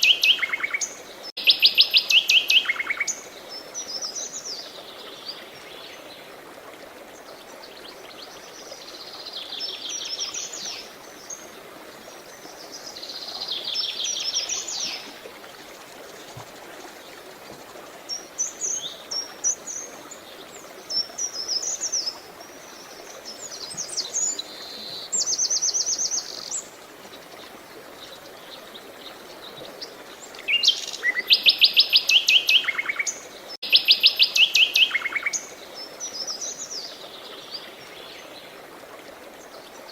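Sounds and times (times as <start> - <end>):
songbirds singing: 0.0 - 6.4, 7.1 - 38.6
flowing water: 0.0 - 39.9.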